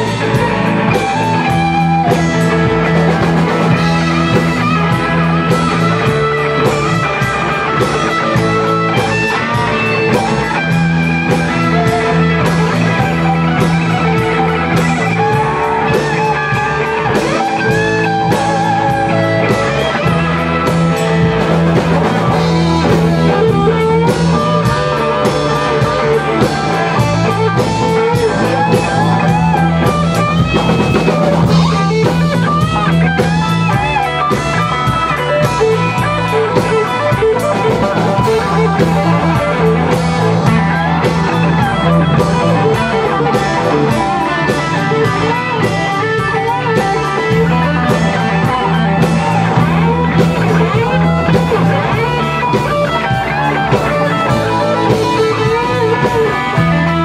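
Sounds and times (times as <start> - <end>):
lead guitar bent notes: 0.0 - 57.0
rock band playing live: 0.0 - 57.0.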